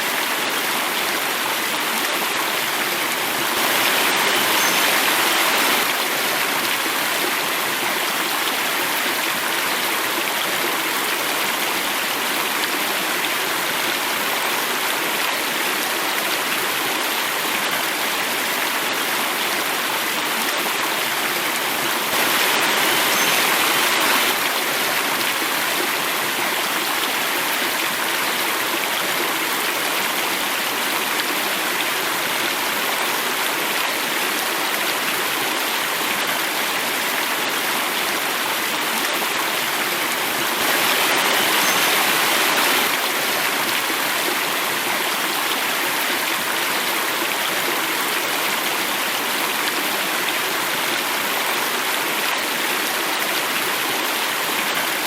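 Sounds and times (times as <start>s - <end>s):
water cascading: 0.0s - 55.0s.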